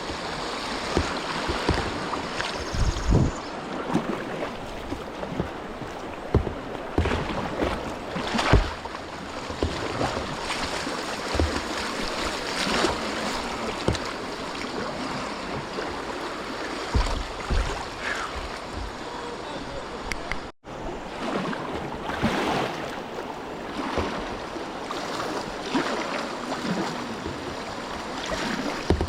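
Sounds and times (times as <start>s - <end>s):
paddle splashing: 0.0s - 20.5s, 21.1s - 29.0s
rushing river water: 0.0s - 29.0s.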